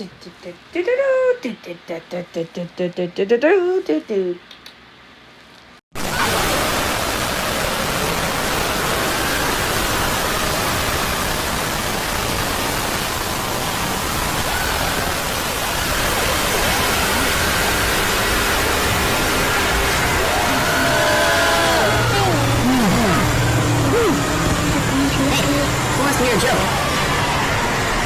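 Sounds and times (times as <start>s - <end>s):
loud static hiss: 4.8s - 28.0s.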